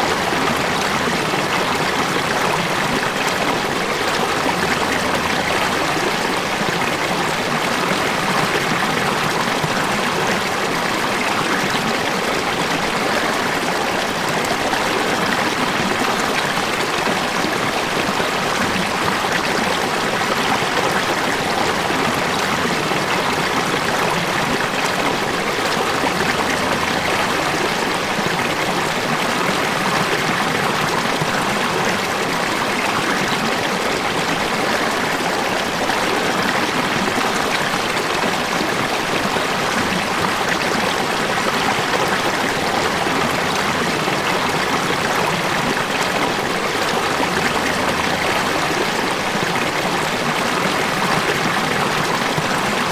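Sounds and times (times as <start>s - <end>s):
rush of falling water: 0.0s - 52.9s.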